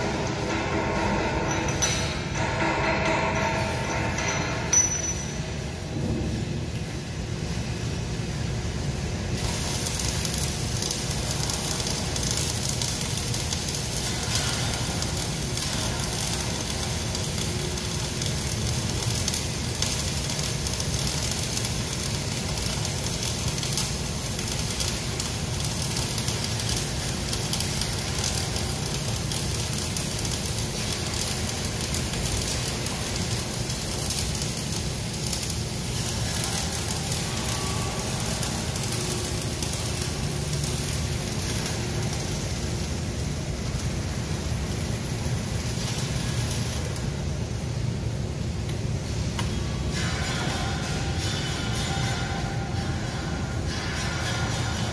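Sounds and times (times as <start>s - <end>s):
arc welding crackle: 0.0s - 54.9s
low hum: 0.0s - 54.9s.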